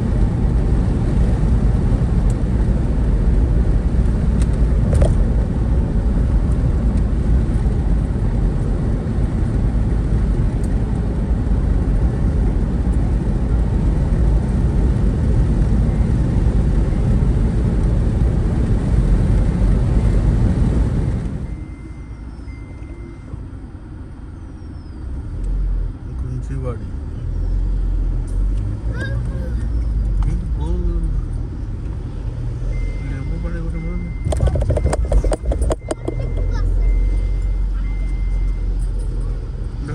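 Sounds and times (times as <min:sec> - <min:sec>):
road and wind noise in vehicle: 0:00.0 - 0:39.9.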